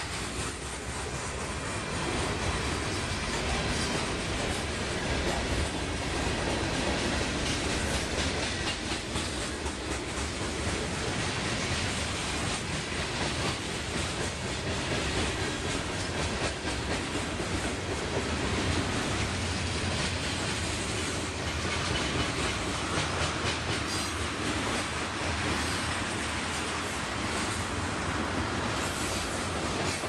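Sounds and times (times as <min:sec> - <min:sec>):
train wheels rolling on rails: 0:00.0 - 0:30.0
wheels clicking over rail joints: 0:00.0 - 0:30.0.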